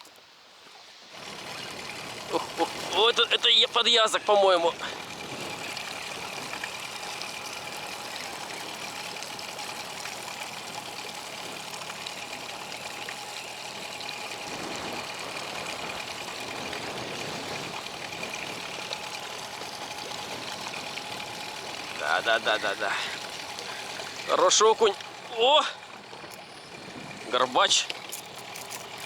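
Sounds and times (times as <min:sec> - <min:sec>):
water noise: 0:00.0 - 0:29.0
outboard motor running steadily: 0:01.1 - 0:29.0.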